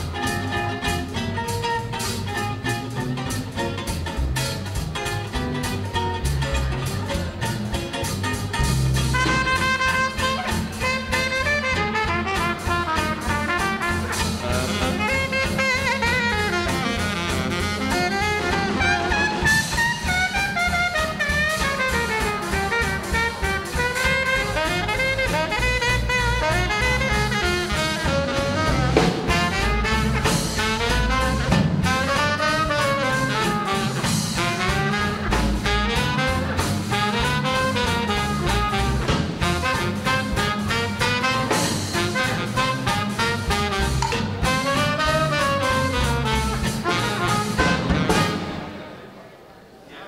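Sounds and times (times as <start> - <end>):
swing jazz band playing: 0.0 - 49.2
horn melody: 8.3 - 49.1
trumpet playing: 8.6 - 49.0.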